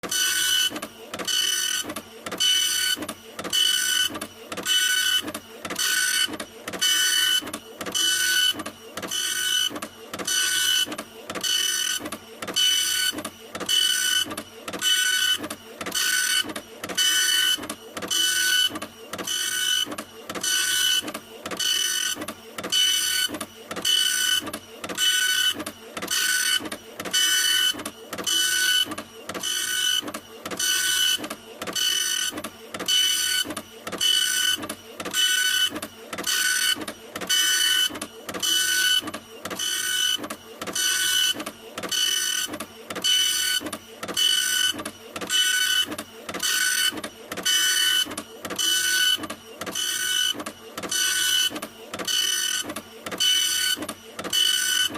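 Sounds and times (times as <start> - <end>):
printer mechanism whirring: 0.0 - 54.9.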